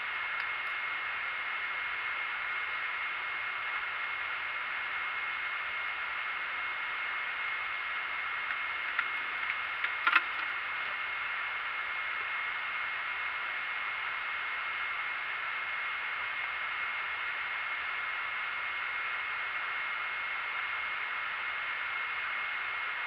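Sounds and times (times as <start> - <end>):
high steady whine: 0.0 - 23.0.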